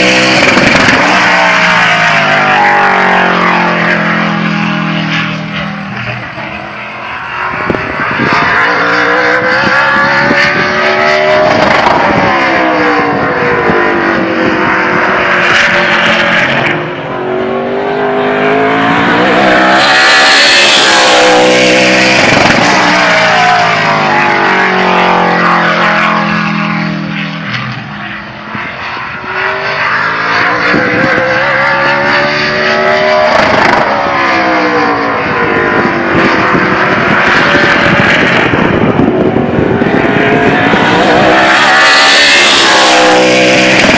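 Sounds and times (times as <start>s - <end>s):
race car engine at speed: 0.0s - 43.9s.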